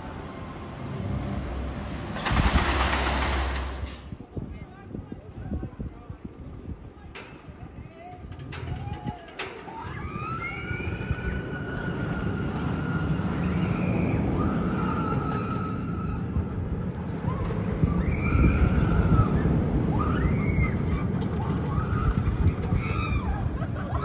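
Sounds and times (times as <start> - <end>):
roller coaster rumbling on track: 0.0 - 24.0.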